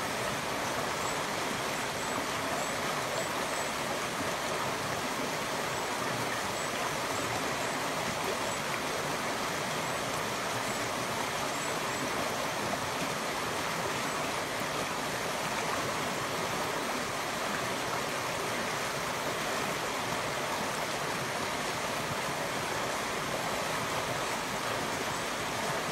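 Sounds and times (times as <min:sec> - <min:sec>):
river flowing over rocks: 0:00.0 - 0:25.9.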